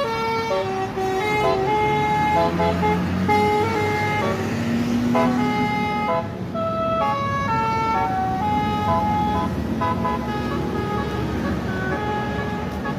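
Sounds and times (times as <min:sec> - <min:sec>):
low rumble of bus: 0:00.0 - 0:12.9
melody air horn: 0:00.0 - 0:12.9.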